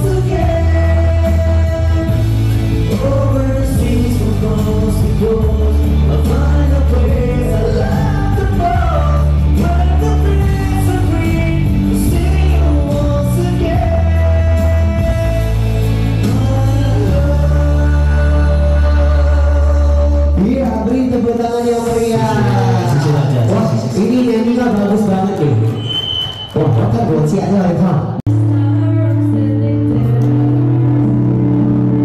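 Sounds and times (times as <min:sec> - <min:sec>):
pop song with singing: 0:00.0 - 0:25.9, 0:26.6 - 0:32.0.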